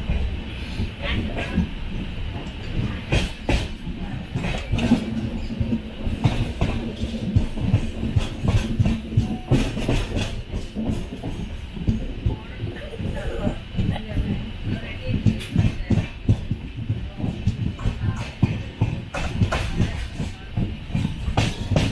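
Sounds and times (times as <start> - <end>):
train rumbling: 0.0 - 21.9
wheels clacking over rail joints: 1.0 - 21.9.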